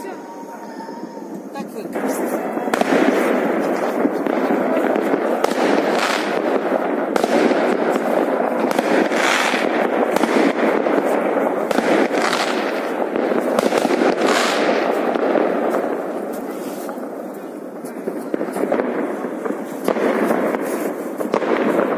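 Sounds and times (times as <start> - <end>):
fireworks crackling and banging: 0.0 - 21.9.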